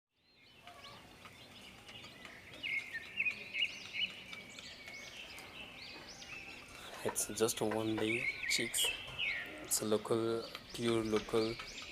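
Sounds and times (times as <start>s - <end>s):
chicks peeping: 0.4s - 11.9s.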